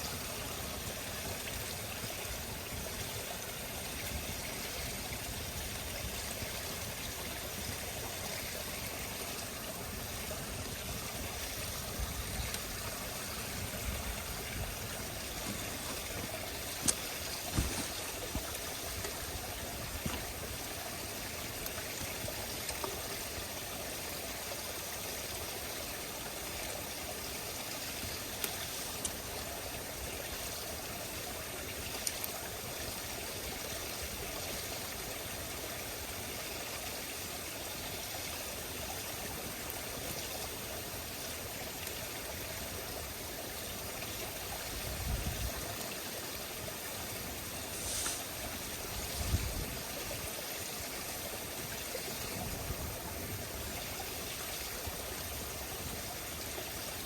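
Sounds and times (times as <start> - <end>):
campfire hissing and crackling: 0.0 - 57.0.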